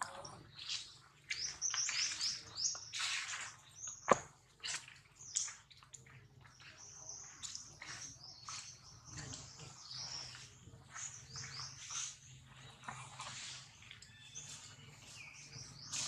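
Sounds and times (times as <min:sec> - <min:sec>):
small birds chirping: 0:00.0 - 0:16.0
soft scratchy sounds: 0:00.0 - 0:16.0.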